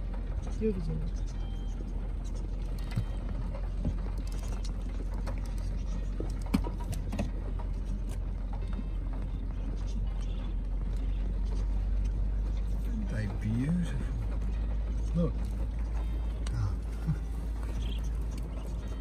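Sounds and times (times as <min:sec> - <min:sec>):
car engine running: 0:00.0 - 0:19.0
birds tapping on car: 0:00.1 - 0:19.0.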